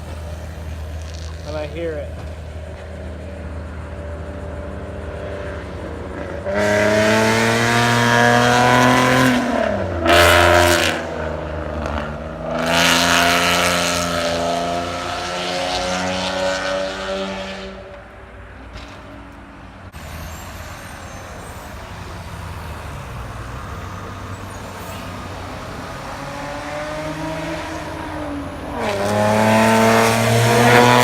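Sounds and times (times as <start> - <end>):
car engine revving: 0.0 - 18.2, 19.9 - 31.0.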